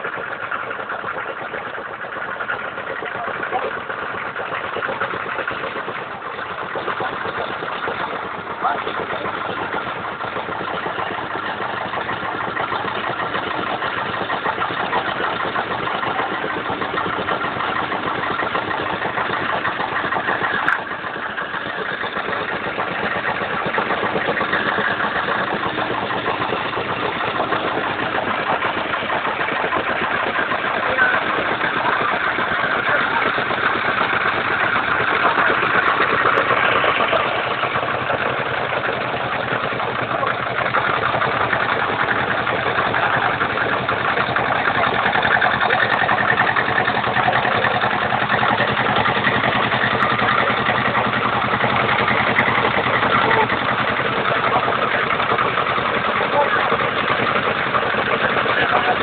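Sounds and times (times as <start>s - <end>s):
tractor engines idling: 0.0s - 59.0s.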